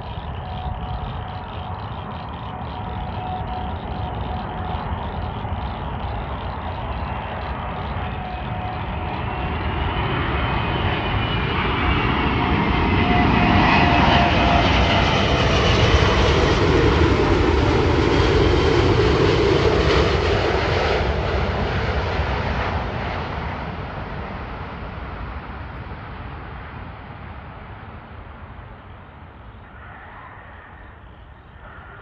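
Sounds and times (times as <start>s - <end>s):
jet engines roaring with whine: 0.0s - 32.0s.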